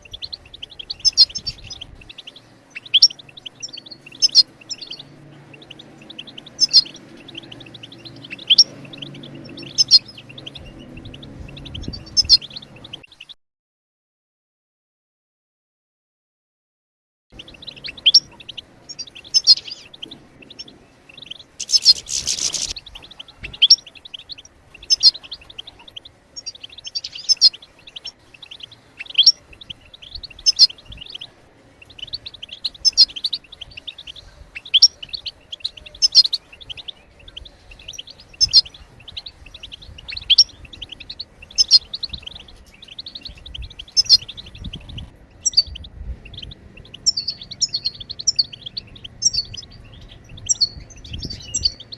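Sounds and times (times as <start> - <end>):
goldfinch twittering: 0.0 - 13.0, 17.4 - 51.9.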